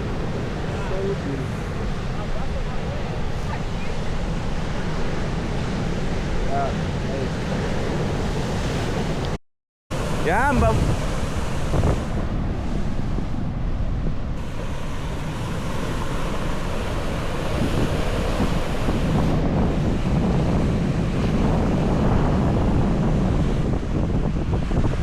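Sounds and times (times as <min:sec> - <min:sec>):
ocean surf washing in: 0:00.0 - 0:25.0
wind buffeting microphone: 0:00.0 - 0:25.0.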